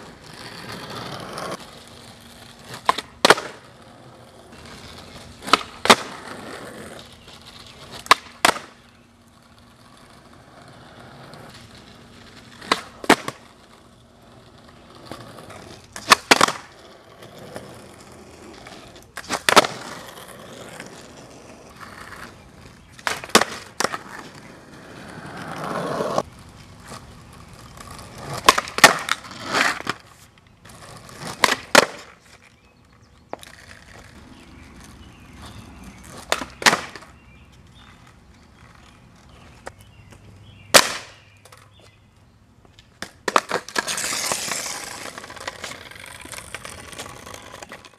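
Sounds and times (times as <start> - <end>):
skateboard wooden clacks: 0.0 - 3.8, 4.5 - 10.3, 11.2 - 13.8, 14.5 - 42.0, 42.6 - 47.9
skateboard wheels rolling on asphalt: 0.0 - 47.9.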